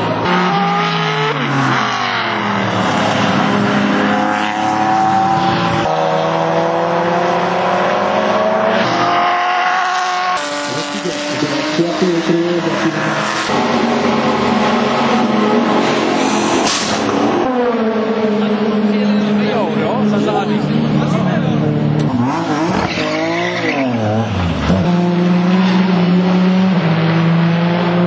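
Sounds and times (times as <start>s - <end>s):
racing car engines revving: 0.0s - 28.0s.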